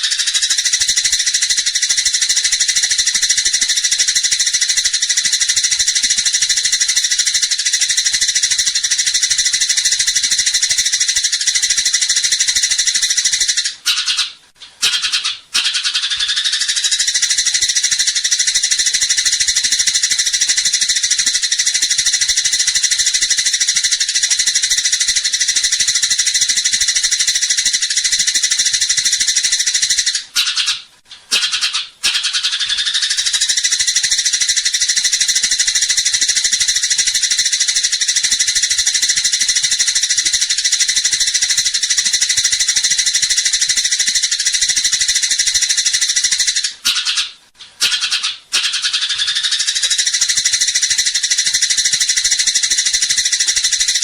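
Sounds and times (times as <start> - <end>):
sparrows chattering: 0.0 - 54.0.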